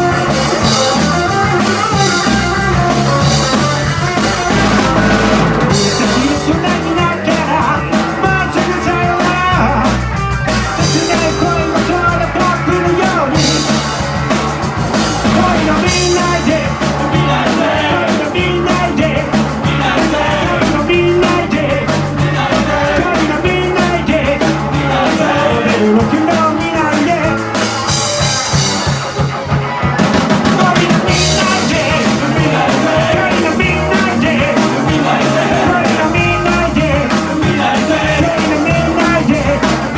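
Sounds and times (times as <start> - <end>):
person singing: 0.0 - 10.1, 10.7 - 14.3, 15.0 - 27.7, 30.3 - 39.9
drum kit beat: 0.0 - 39.9
live rock band playing: 0.0 - 39.9.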